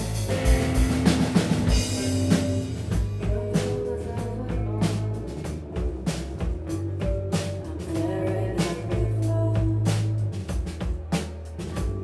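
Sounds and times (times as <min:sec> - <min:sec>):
drum kit beat: 0:00.0 - 0:12.0
electric guitars: 0:00.0 - 0:12.0.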